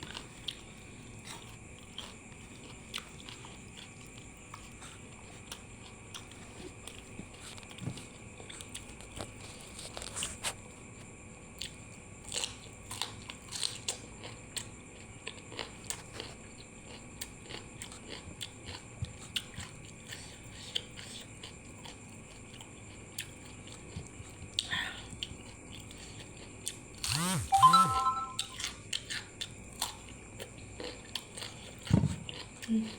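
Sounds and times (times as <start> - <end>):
person chewing and crunching: 0.0 - 10.6, 11.6 - 32.9.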